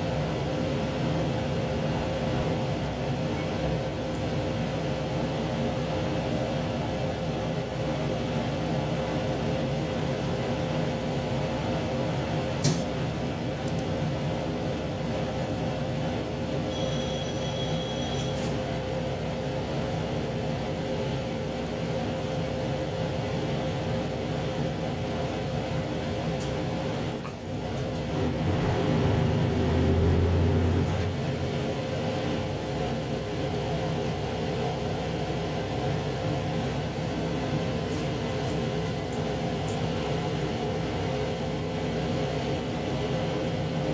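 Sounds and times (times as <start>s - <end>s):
train interior rumble: 0.0s - 43.9s.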